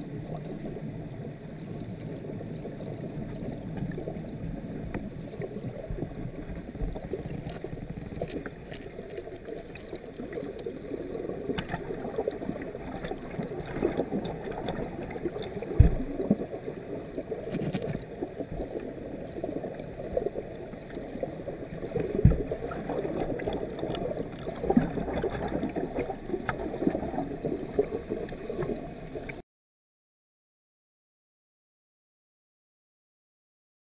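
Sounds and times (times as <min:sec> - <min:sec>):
muffled underwater stream rush: 0:00.0 - 0:29.4.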